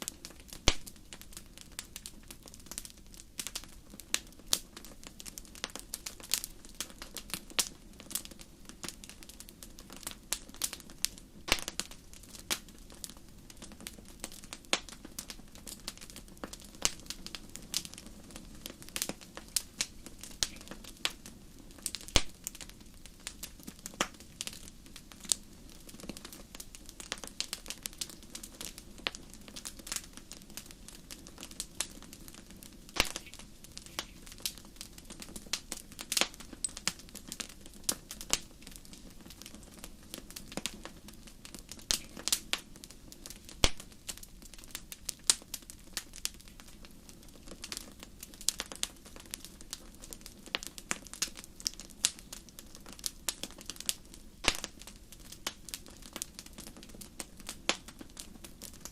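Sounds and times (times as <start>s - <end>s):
sharp pops and snaps of fire: 0.0s - 58.9s
soft rumble of flames: 0.0s - 58.9s
wood fire crackling: 0.0s - 58.9s.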